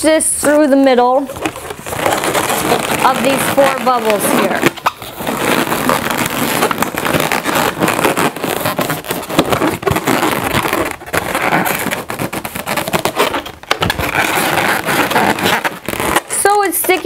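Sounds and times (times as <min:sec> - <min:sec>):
balloons rubbing and squeaking: 0:00.0 - 0:17.0.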